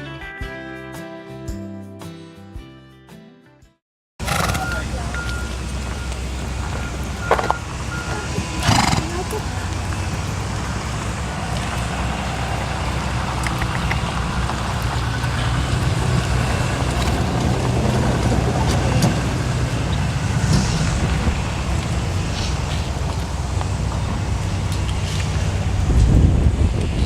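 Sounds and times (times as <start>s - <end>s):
rushing noise: 4.2s - 27.0s
vehicle engine droning: 4.2s - 27.0s.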